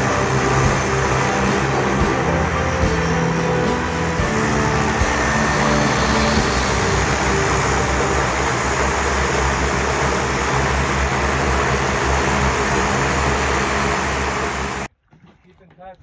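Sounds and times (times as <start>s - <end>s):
constant rushing noise: 0.0s - 14.9s
low engine hum: 0.0s - 14.9s.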